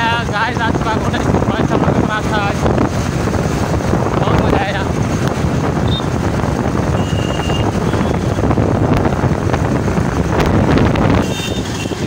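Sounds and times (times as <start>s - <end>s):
road and engine rumble: 0.0s - 12.0s
wind buffeting microphone: 0.0s - 12.0s.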